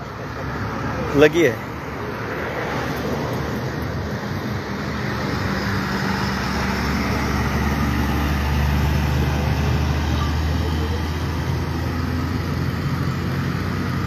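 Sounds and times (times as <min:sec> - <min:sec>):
road traffic: 0:00.0 - 0:14.0
vehicle engine drone: 0:00.0 - 0:14.0.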